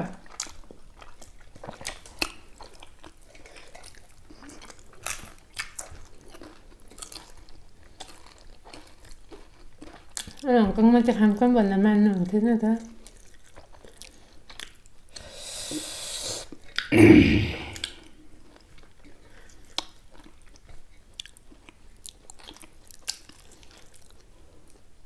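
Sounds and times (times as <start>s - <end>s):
chewing and wet mouth clicks: 0.2s - 10.4s, 12.9s - 15.2s, 16.4s - 16.9s, 17.7s - 24.8s.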